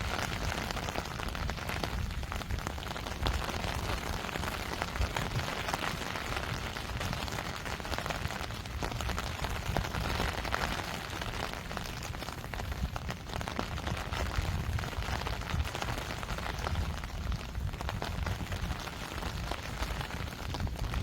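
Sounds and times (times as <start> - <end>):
rain drops ticking: 0.0 - 21.0.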